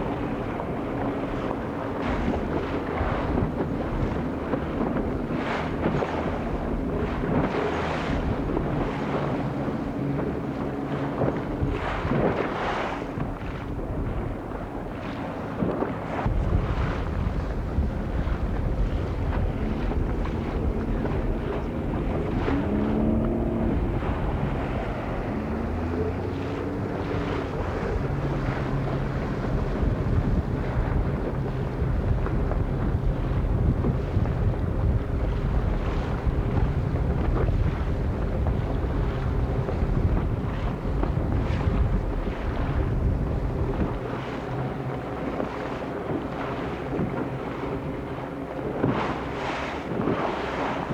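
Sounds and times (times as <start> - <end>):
water rushing along hull: 0.0 - 50.9
wind buffeting microphone: 0.0 - 50.9.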